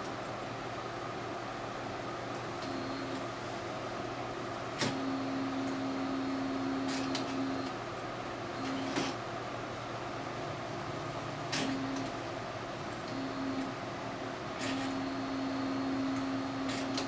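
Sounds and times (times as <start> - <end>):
printer motor humming: 2.3 - 17.0.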